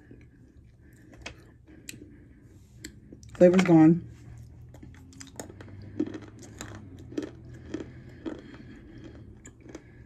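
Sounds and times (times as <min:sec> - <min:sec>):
person chewing crunchy clay: 0:00.0 - 0:03.4, 0:04.2 - 0:10.0.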